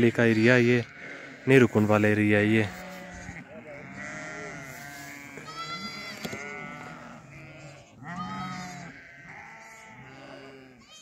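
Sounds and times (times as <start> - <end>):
sheep and goats bleating: 0.0 - 11.0.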